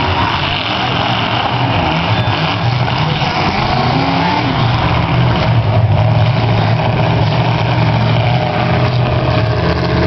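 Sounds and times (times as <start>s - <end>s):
car engines running at low revs: 0.0s - 10.0s.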